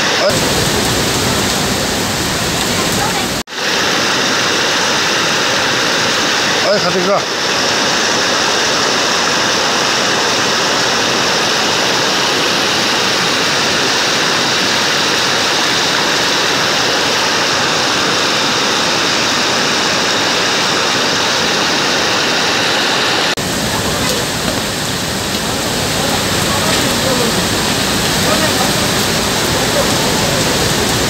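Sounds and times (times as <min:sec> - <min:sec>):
floodwater rushing over wall: 0:00.0 - 0:31.0
water rushing down flooded lane: 0:00.0 - 0:31.0.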